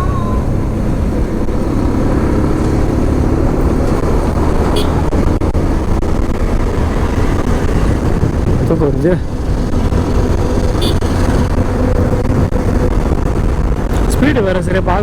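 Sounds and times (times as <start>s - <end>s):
faint motorcycle engine drone: 0.0s - 15.0s
road rumble: 0.0s - 15.0s
wind rush on microphone: 0.0s - 15.0s.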